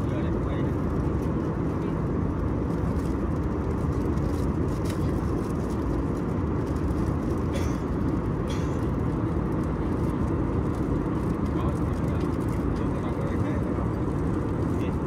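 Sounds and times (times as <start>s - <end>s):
airplane cabin airflow and engines: 0.0s - 15.0s.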